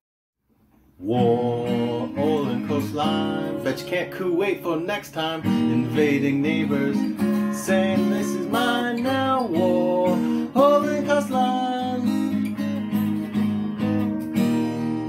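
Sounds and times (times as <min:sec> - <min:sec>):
strummed acoustic guitar: 0:00.6 - 0:15.0.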